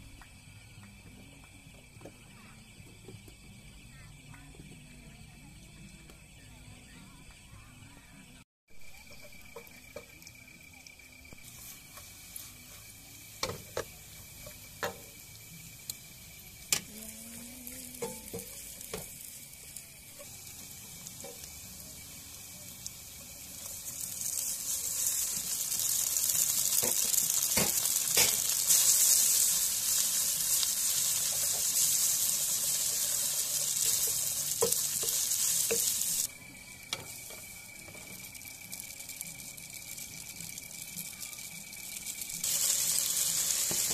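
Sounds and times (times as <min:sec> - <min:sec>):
food sizzling in a pan: 0:00.0 - 0:08.1, 0:08.7 - 0:43.9.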